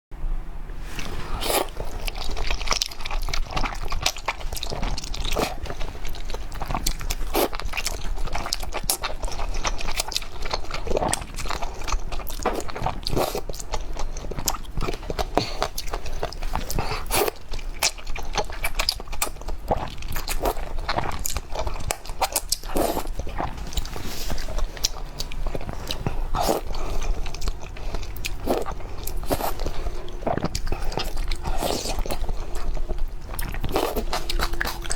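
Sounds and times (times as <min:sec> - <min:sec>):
steady low hum: 0:00.2 - 0:34.9
person chewing and crunching food: 0:00.8 - 0:34.9.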